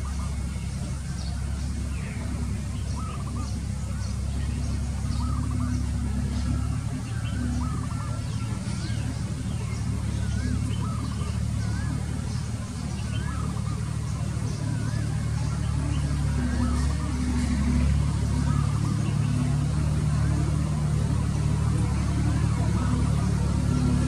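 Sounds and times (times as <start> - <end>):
birds whistling: 0.0 - 24.0
faint high bird chirps: 0.0 - 24.0.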